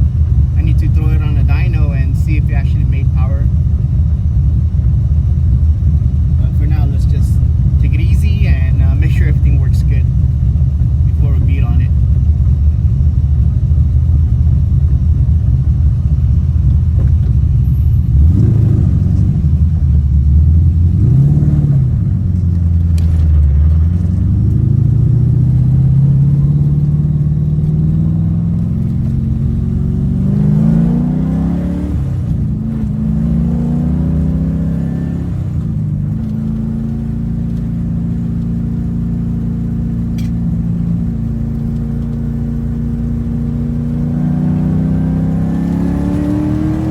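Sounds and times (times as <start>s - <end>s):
engine revving: 0.0s - 13.2s, 14.4s - 46.9s.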